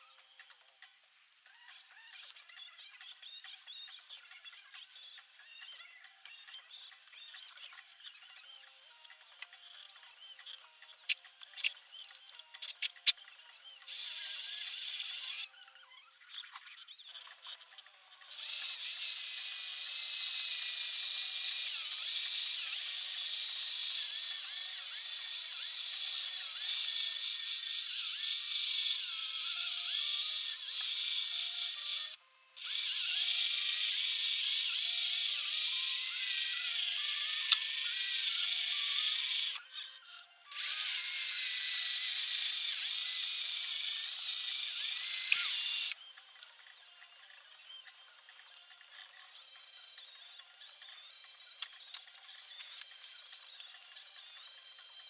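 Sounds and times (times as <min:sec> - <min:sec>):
high-pitched tool grinding: 0:03.3 - 0:15.5, 0:16.3 - 0:55.0.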